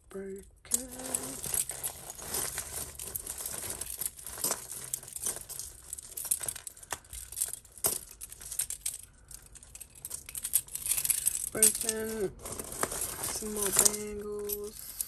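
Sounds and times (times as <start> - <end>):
jewellery pieces clinking: 0.7 - 15.0
plastic bags crinkling: 0.7 - 15.0.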